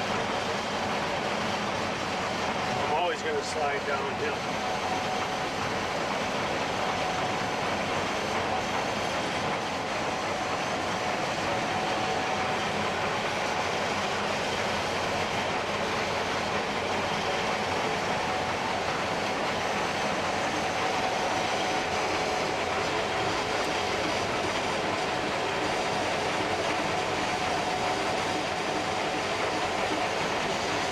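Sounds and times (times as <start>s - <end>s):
combine harvester rumbling: 0.0s - 30.9s
thin steady whine: 0.0s - 30.9s.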